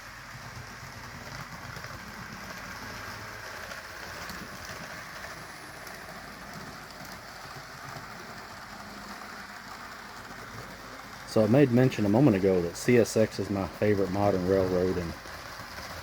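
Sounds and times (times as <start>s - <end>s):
model train motors whirring: 0.0s - 16.0s
wheels rolling on rails: 0.0s - 16.0s.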